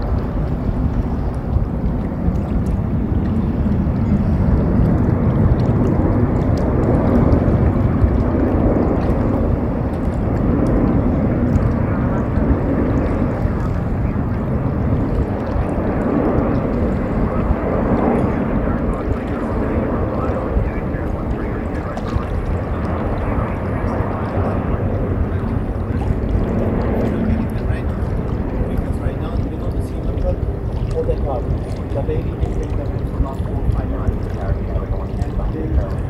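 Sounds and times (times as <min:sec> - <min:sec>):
distant jet engine roar: 0:00.0 - 0:36.0.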